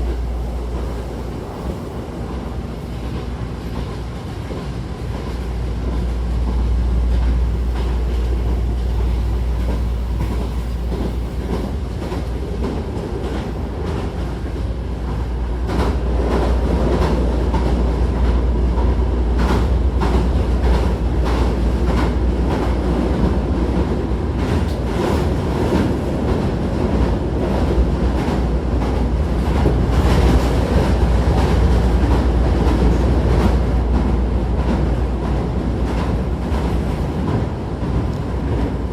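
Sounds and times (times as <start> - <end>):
train low rumble: 0.0 - 38.9.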